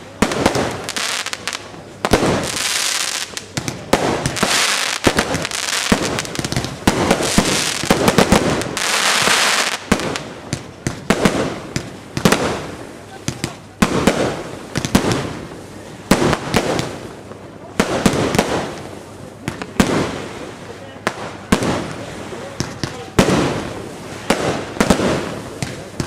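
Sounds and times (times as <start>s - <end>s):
firework bangs: 0.0s - 26.0s
firework hiss: 0.0s - 26.0s.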